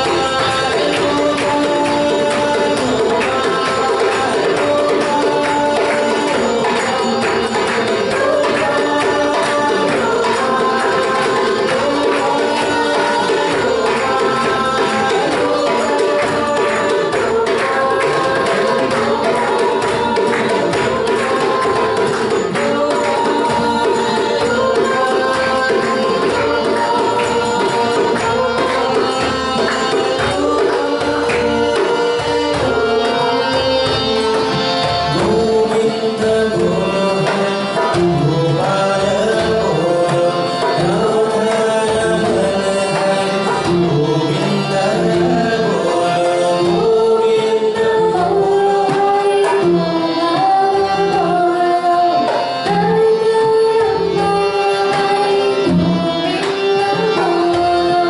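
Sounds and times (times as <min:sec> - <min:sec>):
hand drum rhythm: 0:00.0 - 0:58.0
voices singing a chant: 0:00.0 - 0:58.0.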